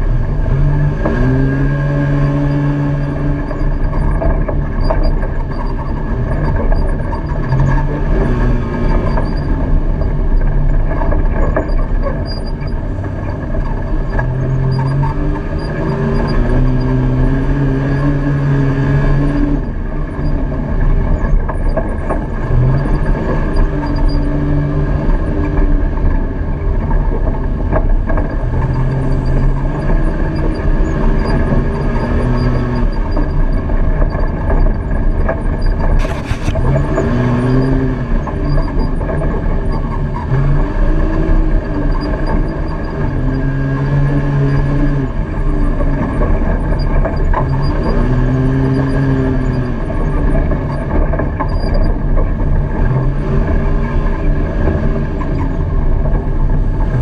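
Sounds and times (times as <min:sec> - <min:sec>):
rattle and trail noise: 0:00.0 - 0:57.0
utility vehicle engine running: 0:00.0 - 0:57.0.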